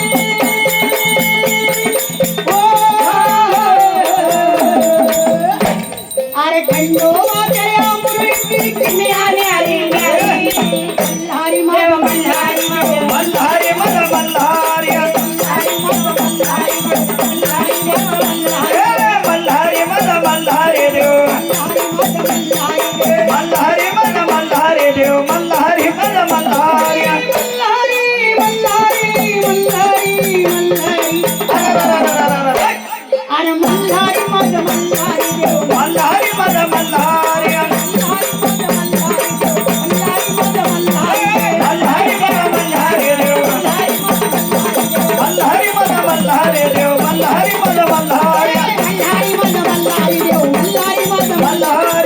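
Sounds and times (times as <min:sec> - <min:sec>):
rattling percussion: 0:00.0 - 0:52.0.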